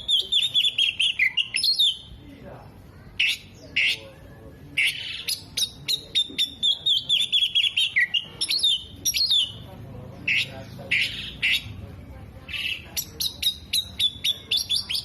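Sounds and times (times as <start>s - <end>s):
harsh rasping bird calls: 0.0s - 2.2s, 3.1s - 15.0s
magpie-robin singing: 0.0s - 15.0s.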